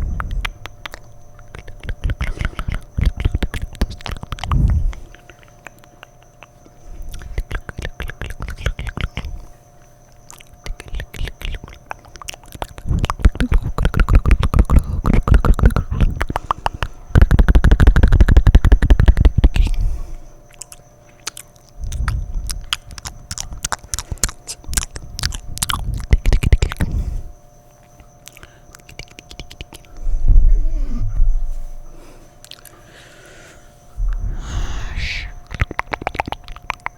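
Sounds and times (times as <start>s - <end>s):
wet mouth clicking and smacking: 0.0s - 9.5s, 10.1s - 19.8s, 20.5s - 26.9s, 27.8s - 30.0s, 32.4s - 32.8s, 34.1s - 36.9s.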